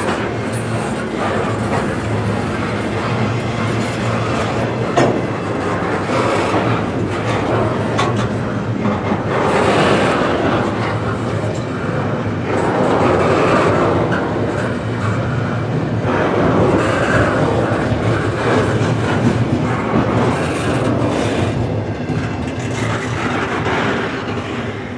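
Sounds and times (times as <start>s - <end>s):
freight train wheels on rail: 0.0s - 24.9s.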